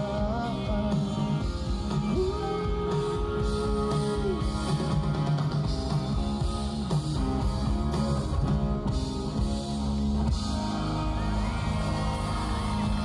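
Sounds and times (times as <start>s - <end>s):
drum kit: 0.0s - 13.0s
electric guitars: 0.0s - 13.0s.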